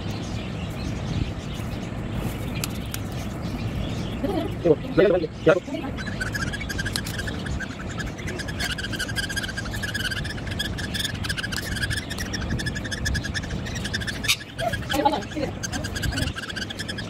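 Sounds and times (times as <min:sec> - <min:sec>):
bird chick high chirps: 0:00.0 - 0:17.0.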